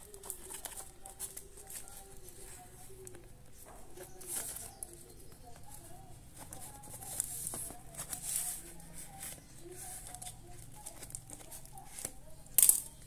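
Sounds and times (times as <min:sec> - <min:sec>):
scissors cutting cardboard and tape: 0:00.0 - 0:03.2, 0:05.6 - 0:13.0
cardboard rustling and scraping: 0:00.0 - 0:12.3.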